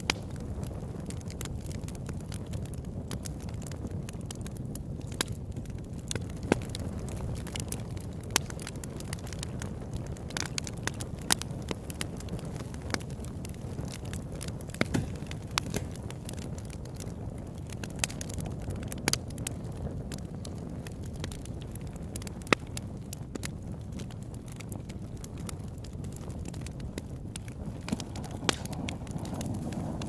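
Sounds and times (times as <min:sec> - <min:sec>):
fire low rumble: 0:00.0 - 0:30.0
wood crackling and popping: 0:00.0 - 0:30.0.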